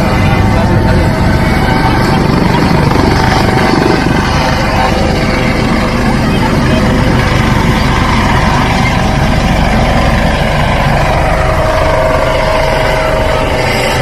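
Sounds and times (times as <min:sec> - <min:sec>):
military aircraft engines droning: 0:00.0 - 0:14.0.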